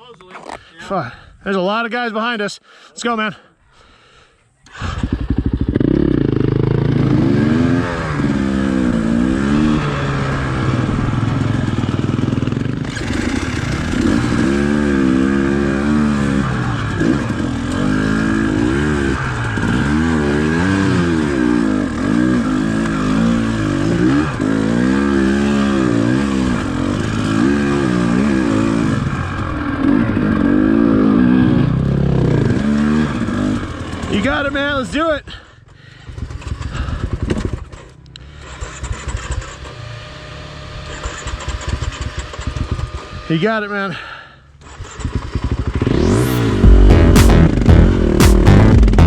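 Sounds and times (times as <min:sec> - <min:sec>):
dirt bike engine revving: 0:04.7 - 0:34.6, 0:36.1 - 0:43.4, 0:44.6 - 0:49.0.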